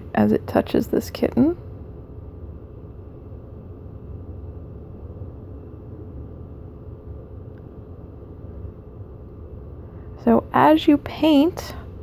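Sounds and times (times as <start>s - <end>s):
faint steady hum: 0.0s - 12.0s
low background rumble: 0.0s - 12.0s.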